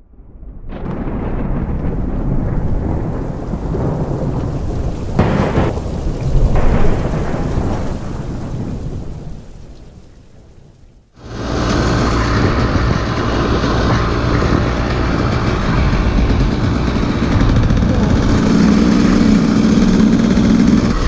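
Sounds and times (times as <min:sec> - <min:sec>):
rumbling thunder: 0:00.0 - 0:21.0
steady rain: 0:00.7 - 0:21.0.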